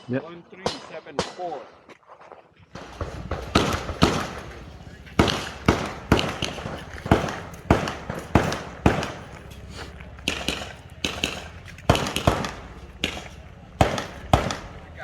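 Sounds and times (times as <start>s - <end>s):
handgun shots echoing: 2.8s - 15.0s.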